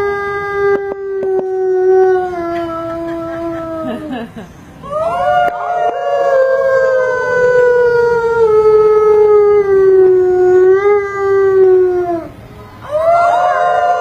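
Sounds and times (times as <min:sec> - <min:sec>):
wolf howling: 0:00.0 - 0:14.0.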